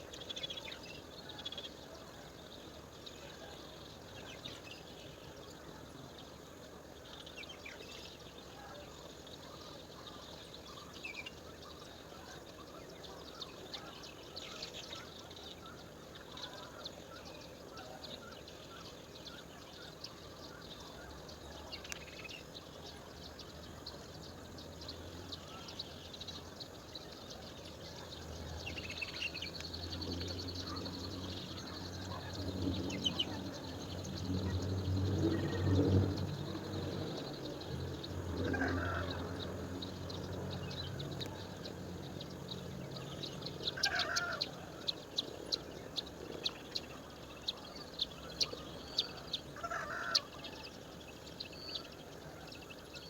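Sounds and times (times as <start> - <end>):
outdoor background noise: 0.0 - 53.0
birds chirping: 9.3 - 53.0.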